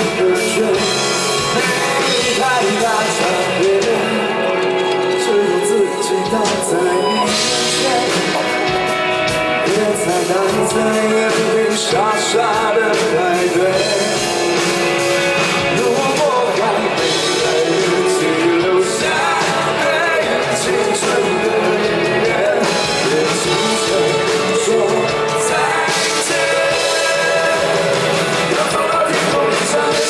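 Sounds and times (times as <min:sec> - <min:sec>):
drums: 0:00.0 - 0:30.0
guitars: 0:00.0 - 0:30.0
person singing: 0:00.0 - 0:30.0.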